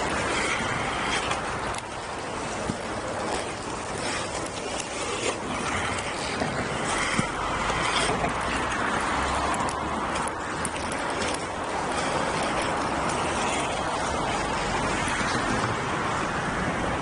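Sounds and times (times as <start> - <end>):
light clicks from skates: 0.0 - 15.7
skate wheels rolling on asphalt: 0.0 - 17.0.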